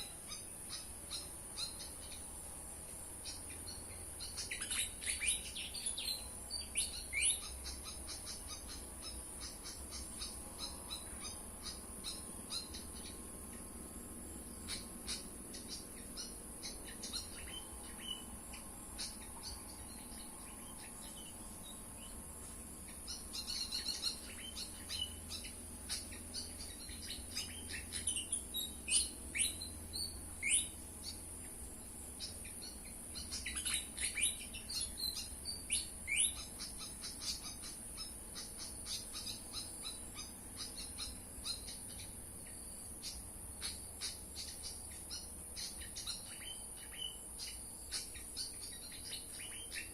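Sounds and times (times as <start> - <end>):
bird chattering calls: 3.2 - 13.6, 14.6 - 49.9.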